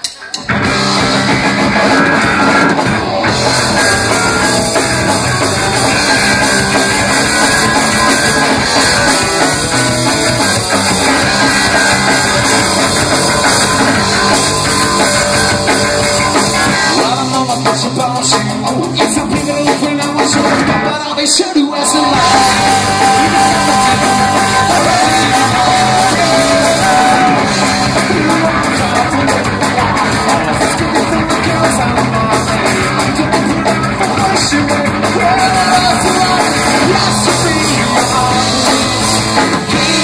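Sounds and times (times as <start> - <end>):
bass guitar: 0.0 - 40.0
distorted electric guitar: 0.0 - 40.0
drum kit: 0.0 - 40.0.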